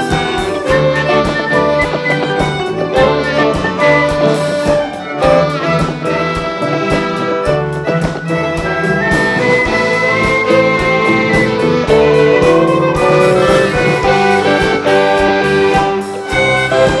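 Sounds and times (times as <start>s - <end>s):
bowed violins melody: 0.0s - 17.0s
cello: 0.0s - 17.0s
percussion steady beat: 0.0s - 17.0s
wind instruments: 0.0s - 17.0s.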